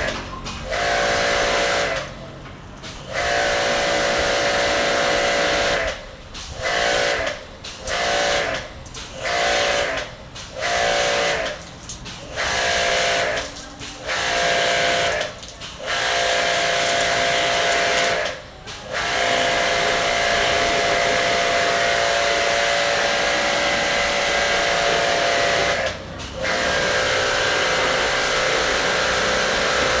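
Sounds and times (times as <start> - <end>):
pressure washer spraying: 0.0 - 30.0
pump motor humming: 0.0 - 30.0.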